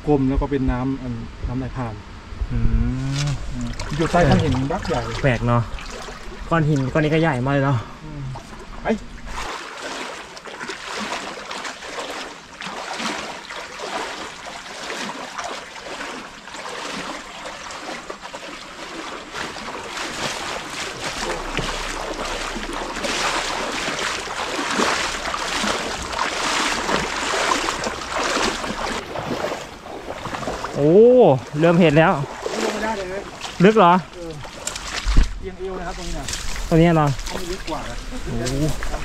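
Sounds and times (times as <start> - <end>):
splashes of wading: 3.0 - 39.0
stream water flowing: 3.0 - 39.0.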